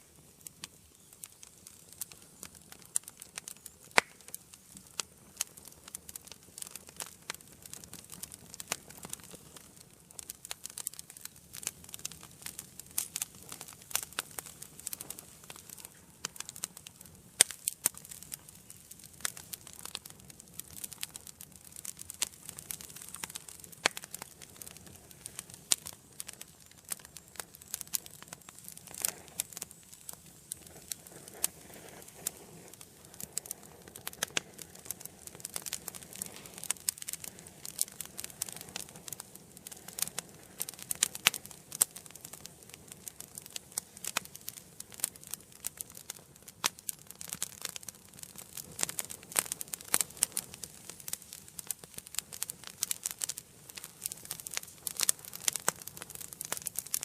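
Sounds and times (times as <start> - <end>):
soft steady hiss: 0.0 - 57.0
wood fire crackling and popping: 0.0 - 57.0.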